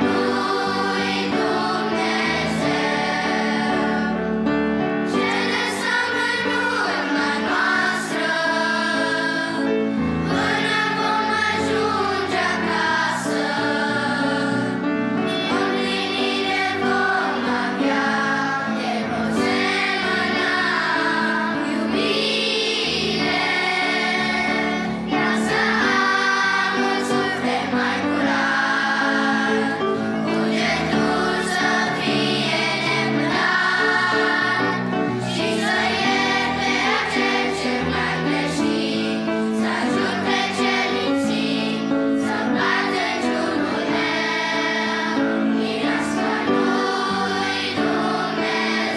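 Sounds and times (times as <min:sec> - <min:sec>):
children's choir singing: 0:00.0 - 0:48.9.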